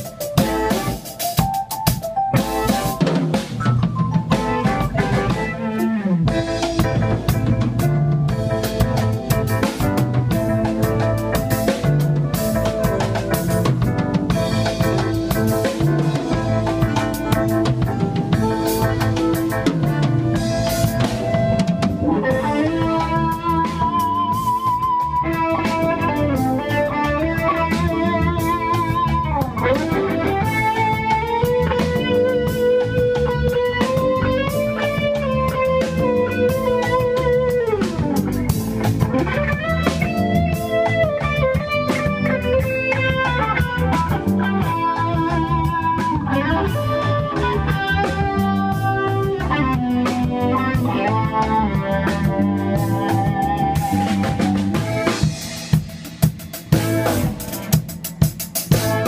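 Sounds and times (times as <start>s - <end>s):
electric guitar lead with bends: 0.0s - 59.0s
reggae rhythm and bass: 0.0s - 59.0s.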